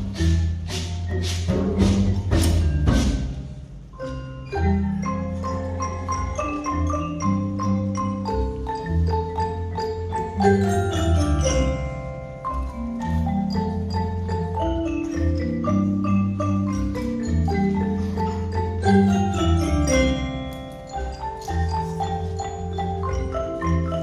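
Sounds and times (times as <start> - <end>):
xylophones and glockenspiels playing: 0.0 - 24.0.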